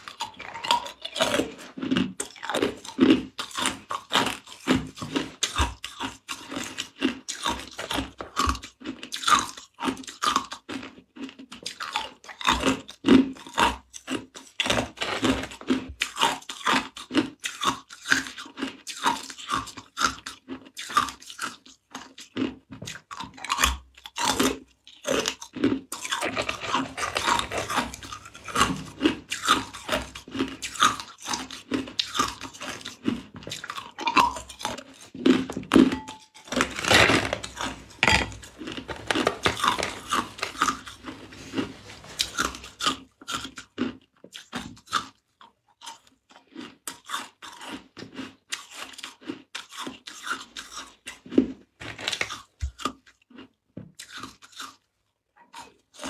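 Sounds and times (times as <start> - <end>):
ice cubes crunched between teeth: 0.0 - 45.1, 45.8 - 54.8.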